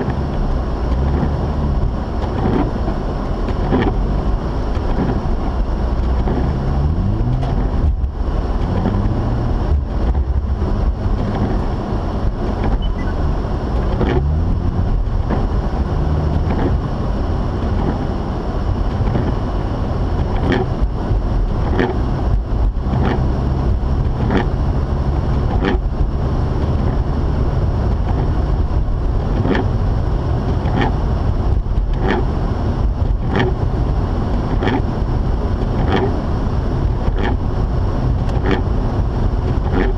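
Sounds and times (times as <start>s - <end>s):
road noise: 0.0s - 39.9s
rotary car engine revving: 0.0s - 39.9s.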